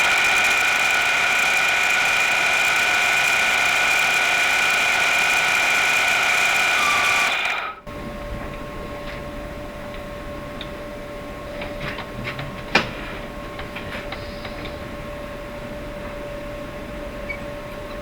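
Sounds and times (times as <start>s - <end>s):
metal lathe humming: 0.0s - 18.0s.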